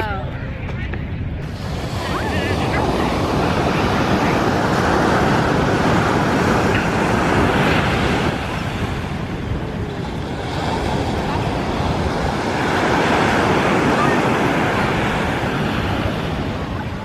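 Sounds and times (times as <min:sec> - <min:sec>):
wind buffeting microphone: 0:00.0 - 0:17.0
ocean surf washing onto beach: 0:01.4 - 0:17.0.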